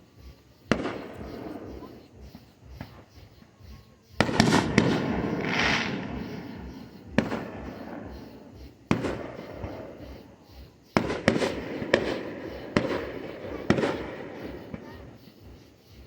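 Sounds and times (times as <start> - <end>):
firework crackling and hissing: 0.0 - 16.0
firework bangs: 0.6 - 3.5, 4.1 - 16.0.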